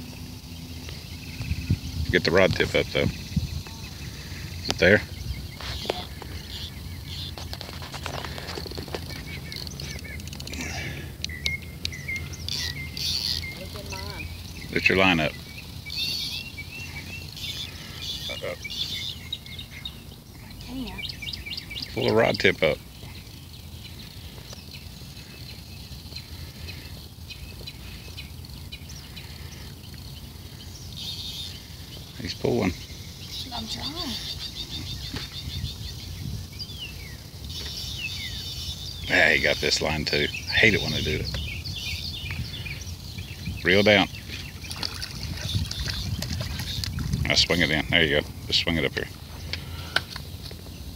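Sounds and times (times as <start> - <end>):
small birds chirping: 0.0 - 50.9
steady low rumble: 0.0 - 50.9.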